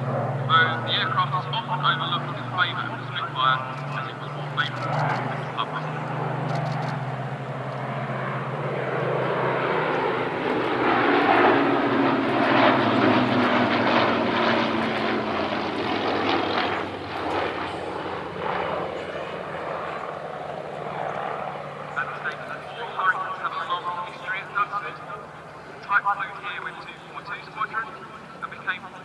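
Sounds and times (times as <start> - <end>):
propeller planes flying past: 0.0 - 29.0.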